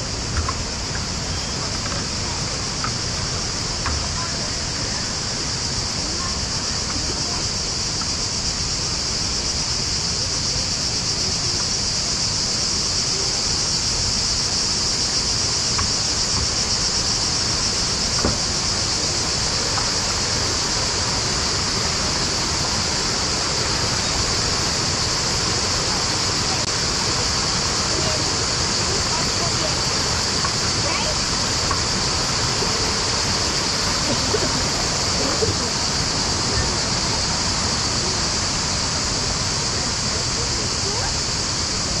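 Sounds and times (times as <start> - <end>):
falling water rushing: 0.0 - 42.0
high-pitched hiss: 0.0 - 42.0.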